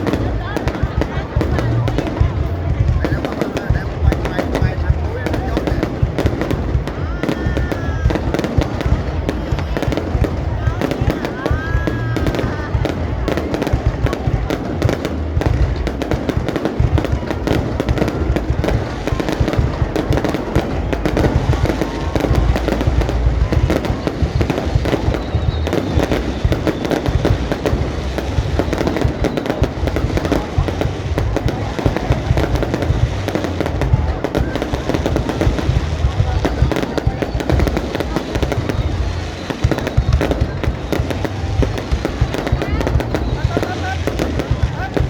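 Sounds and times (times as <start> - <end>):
deep firework booms: 0.0 - 45.0
fireworks bursts and crackling: 0.0 - 45.0.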